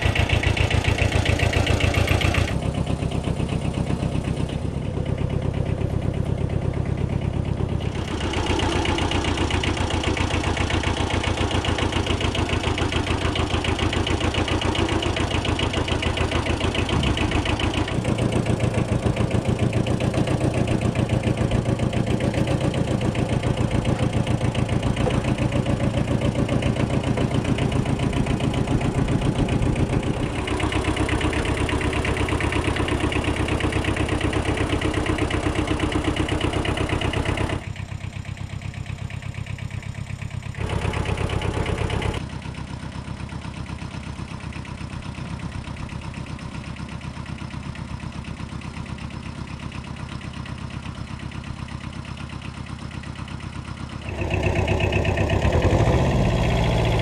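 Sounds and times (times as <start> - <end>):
diesel tractor engine idling: 0.0 - 57.0.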